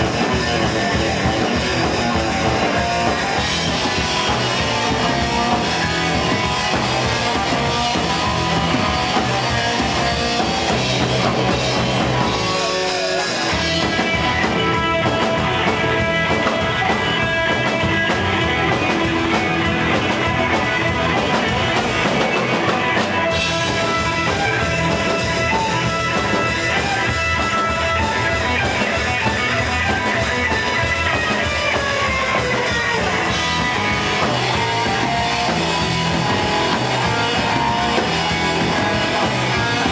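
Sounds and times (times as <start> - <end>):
drum kit: 0.0 - 39.9
electric guitar: 0.0 - 39.9
upright bass: 0.0 - 39.9.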